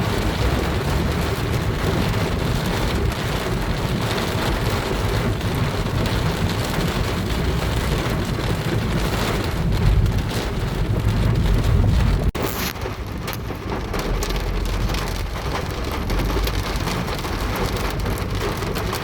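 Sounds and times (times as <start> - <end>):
deep low rumble: 0.0 - 19.0
heavy rain on a car: 0.0 - 19.0.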